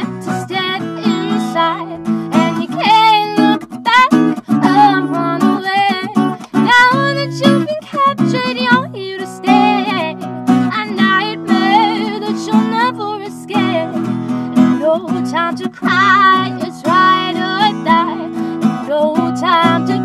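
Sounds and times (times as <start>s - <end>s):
acoustic guitar strumming: 0.0s - 20.0s
woman singing: 0.0s - 20.0s.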